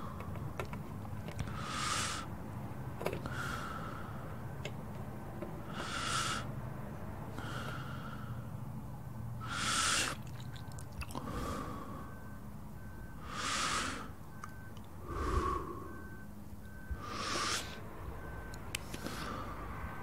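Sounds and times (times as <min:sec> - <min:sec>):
close breathing: 0:00.0 - 0:00.7, 0:01.3 - 0:04.6, 0:05.6 - 0:08.8, 0:09.4 - 0:20.0
steady low hum: 0:00.0 - 0:20.0.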